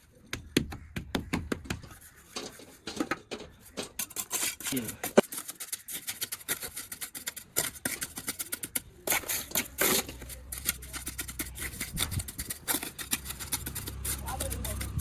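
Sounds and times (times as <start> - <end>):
scraping and tapping: 0.3 - 15.0.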